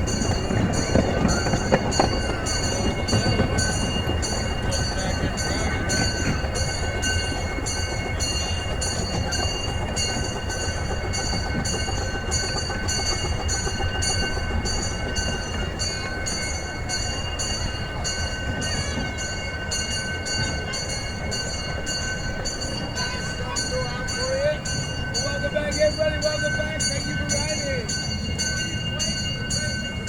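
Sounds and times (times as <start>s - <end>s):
miniature train rumbling on track: 0.0s - 30.0s.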